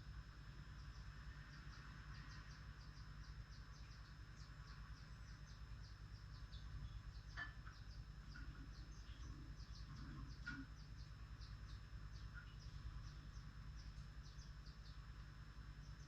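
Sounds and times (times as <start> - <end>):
soft steady noise: 0.0 - 16.0
small bird chirping: 0.6 - 16.0.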